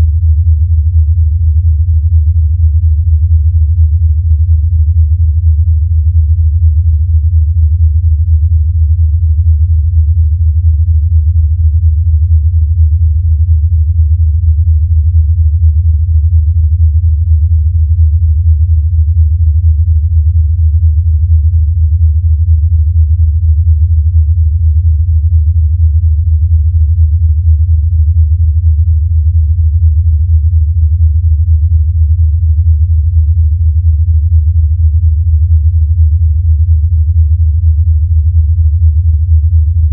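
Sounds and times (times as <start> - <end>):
low fluttering hum: 0.0 - 39.9.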